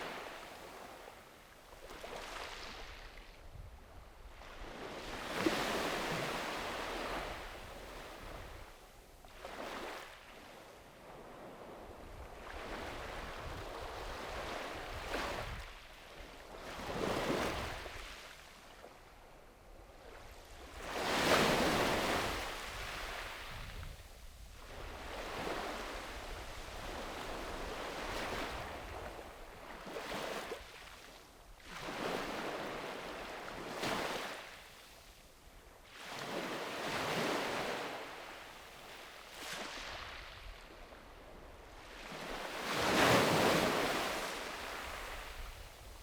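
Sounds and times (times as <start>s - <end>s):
small waves washing onto beach: 0.0s - 35.2s, 35.8s - 46.0s.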